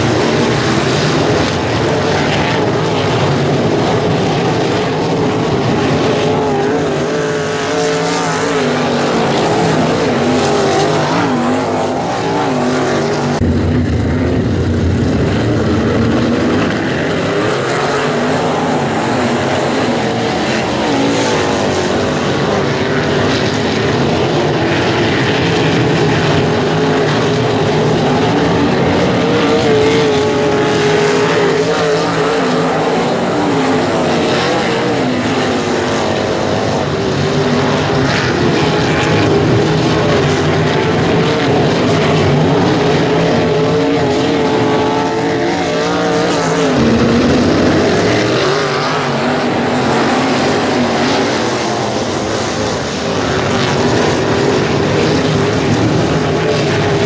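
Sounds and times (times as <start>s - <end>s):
race car engines circling: 0.0s - 57.0s.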